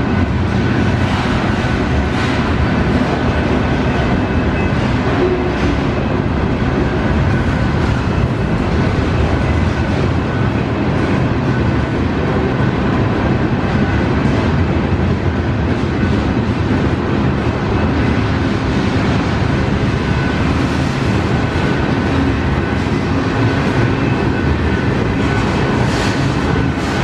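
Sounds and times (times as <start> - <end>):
freight train wheels rumbling on rail: 0.0 - 27.0.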